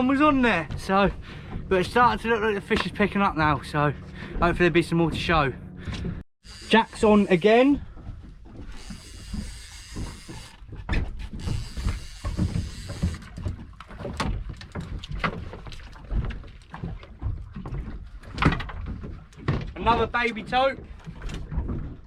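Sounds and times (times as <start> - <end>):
knocks and thumps on boat: 0.0 - 6.2, 7.4 - 22.0.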